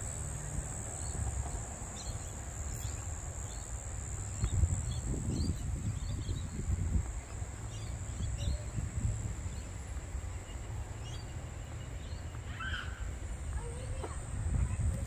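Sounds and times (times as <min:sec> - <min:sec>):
high-pitched insect drone: 0:00.0 - 0:15.0
wind rumble on microphone: 0:00.0 - 0:15.0.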